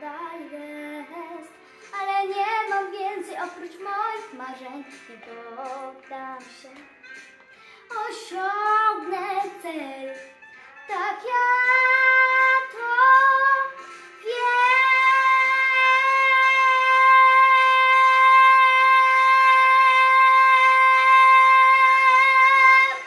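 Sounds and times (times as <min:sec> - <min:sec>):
girl singing into microphone: 0:00.0 - 0:06.9, 0:07.9 - 0:23.0.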